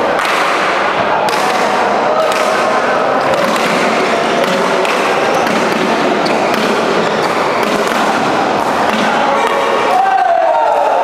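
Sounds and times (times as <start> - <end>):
din of play from courts: 0.0 - 11.0
racket striking shuttlecock: 0.1 - 9.7.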